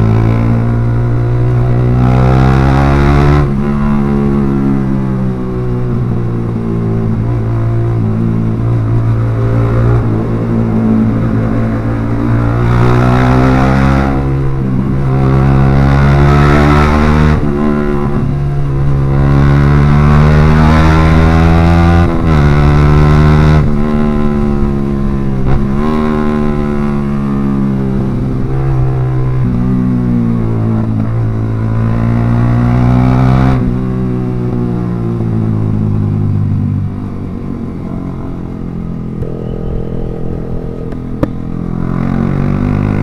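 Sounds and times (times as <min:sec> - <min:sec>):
motorcycle engine revving: 0:00.0 - 0:36.5.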